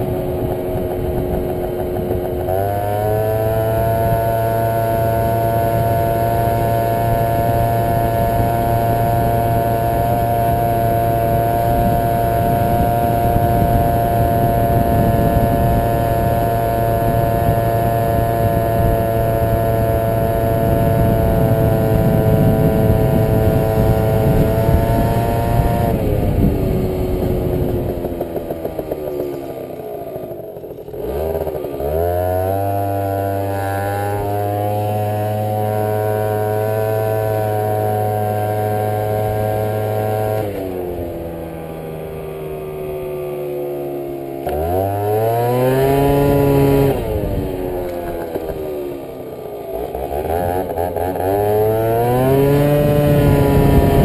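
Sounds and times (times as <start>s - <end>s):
two-stroke scooter engine revving: 0.0s - 54.0s.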